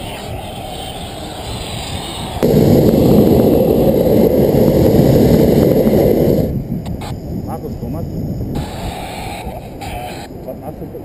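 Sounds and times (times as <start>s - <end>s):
propane burner blasting: 0.2s - 7.4s, 8.2s - 10.3s.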